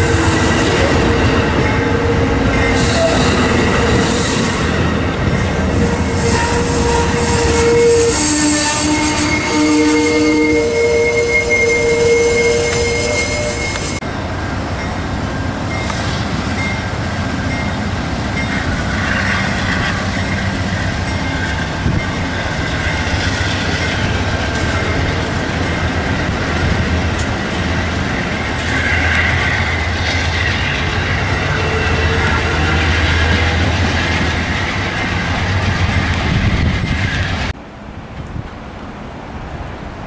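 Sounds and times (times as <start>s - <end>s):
train wheels squealing on rails: 0.0s - 14.0s, 14.8s - 37.5s
train wheels rumbling over track: 0.0s - 40.0s.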